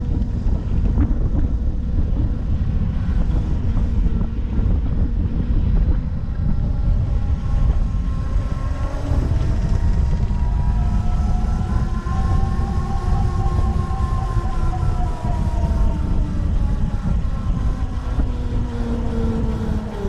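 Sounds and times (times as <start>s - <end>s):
faint rising whine: 0.0s - 20.0s
road noise: 0.0s - 20.0s
wind buffeting microphone: 0.0s - 20.0s.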